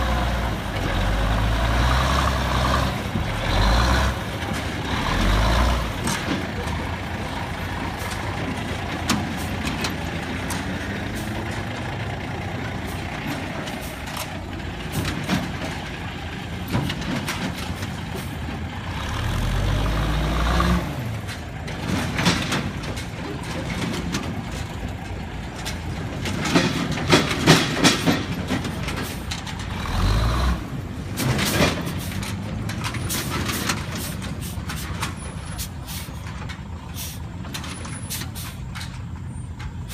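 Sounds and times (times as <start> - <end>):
truck engine revving: 0.0 - 38.6
knocks and rattles: 2.6 - 20.0, 20.9 - 35.6, 36.2 - 39.9.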